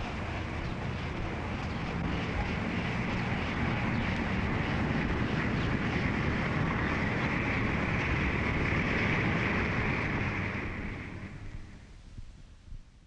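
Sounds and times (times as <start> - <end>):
steady rumbling with hiss: 0.0 - 13.0.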